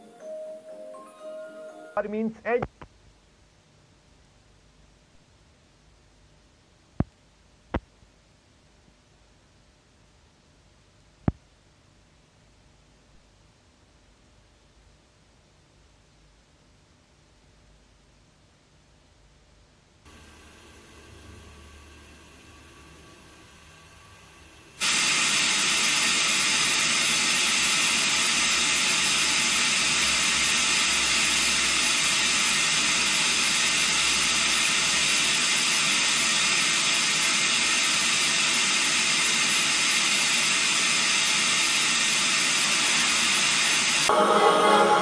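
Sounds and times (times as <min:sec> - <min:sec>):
television static hiss: 0:00.0 - 0:45.0.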